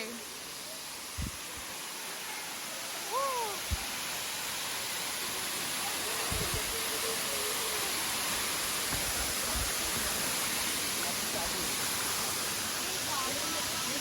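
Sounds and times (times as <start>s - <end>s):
faint voices: 0.0s - 14.0s
waterfall rushing: 0.0s - 14.0s.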